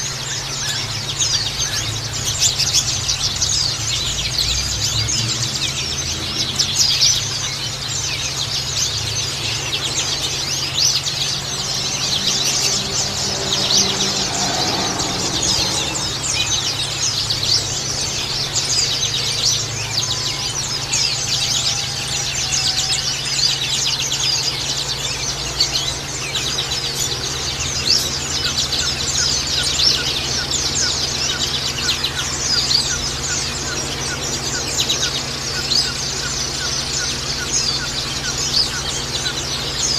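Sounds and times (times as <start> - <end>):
birds chirping and twittering: 0.0 - 39.9
steady low hum: 0.0 - 39.9.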